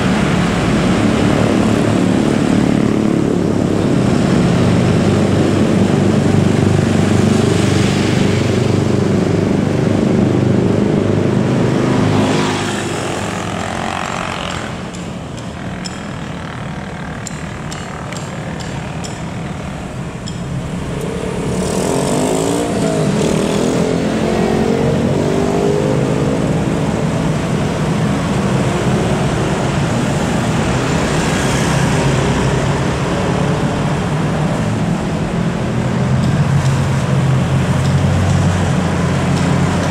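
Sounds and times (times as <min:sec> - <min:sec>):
traffic noise: 0:00.0 - 0:39.9.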